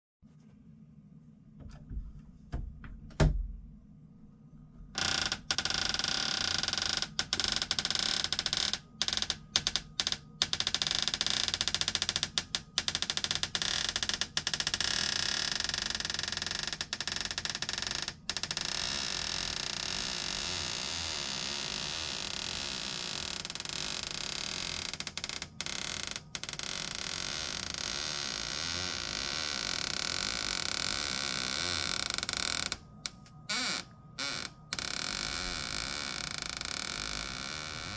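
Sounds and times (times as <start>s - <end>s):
door creaking: 1.6s - 3.6s, 4.9s - 37.9s.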